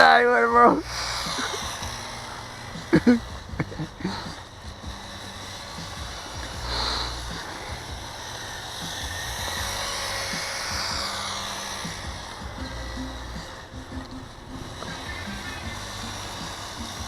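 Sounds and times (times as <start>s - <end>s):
electric motors whining: 0.0s - 17.0s
tyre noise: 0.0s - 17.0s.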